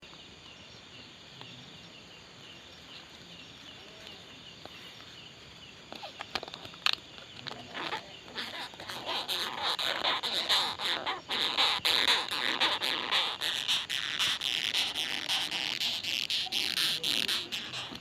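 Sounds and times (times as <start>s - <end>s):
beetle stridulating squeaks: 2.6s - 18.0s.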